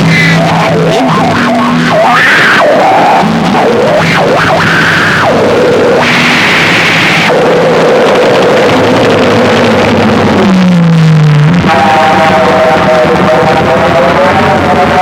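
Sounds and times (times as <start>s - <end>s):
sliding electronic tones: 0.0s - 15.0s
wall of distorted noise: 0.0s - 15.0s.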